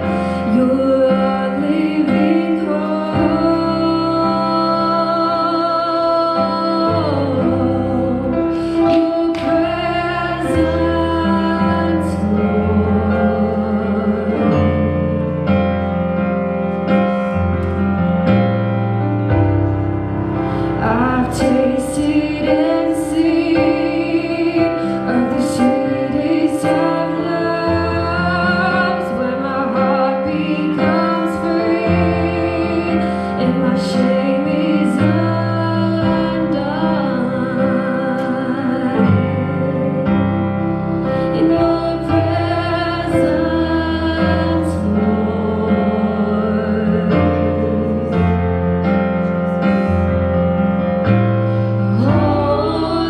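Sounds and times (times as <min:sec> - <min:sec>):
women singing worship song: 0:00.0 - 0:15.3, 0:20.6 - 0:40.3, 0:40.9 - 0:48.4, 0:51.9 - 0:53.0
electric keyboard chords: 0:00.0 - 0:53.0.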